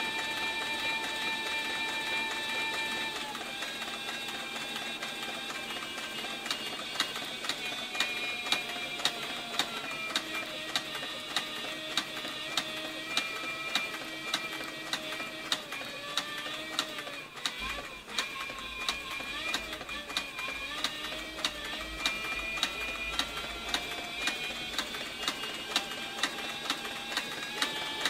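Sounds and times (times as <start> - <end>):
sewing machine motor whine: 0.0 - 28.0
sewing machine stitch clacks: 0.0 - 28.0.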